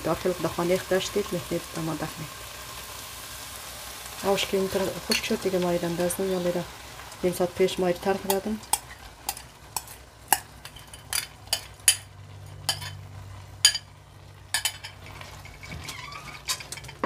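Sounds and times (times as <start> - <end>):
light sizzle: 0.0 - 17.0.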